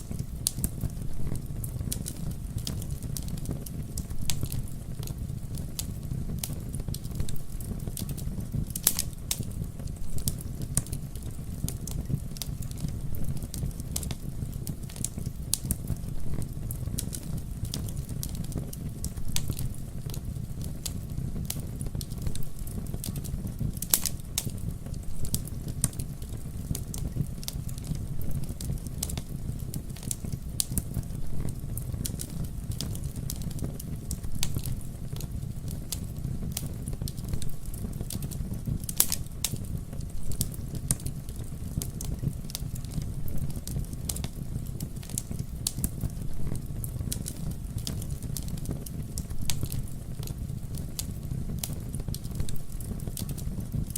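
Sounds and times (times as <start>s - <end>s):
fire crackling and popping: 0.0s - 53.9s
fire flames rumbling: 0.0s - 53.9s.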